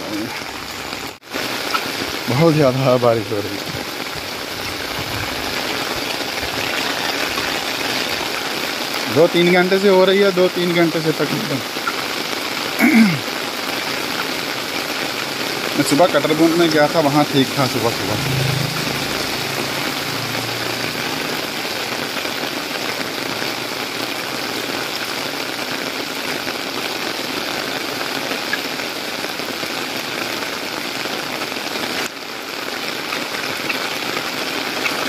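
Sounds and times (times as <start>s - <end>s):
heavy rain on street: 0.0s - 35.0s.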